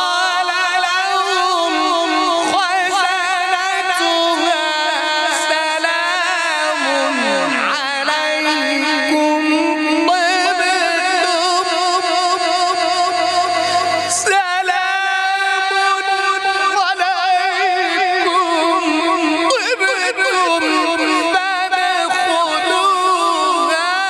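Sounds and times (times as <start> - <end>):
man reciting melodically: 0.0 - 24.0.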